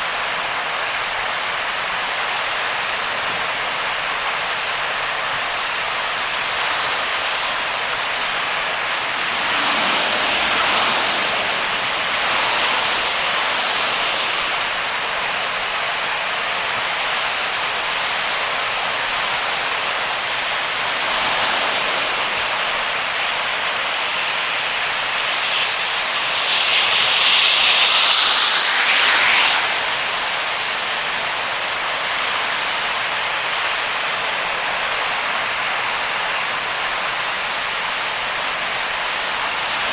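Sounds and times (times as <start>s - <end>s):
heavy rain: 0.0s - 39.9s
tyres hissing on wet road: 0.0s - 39.9s.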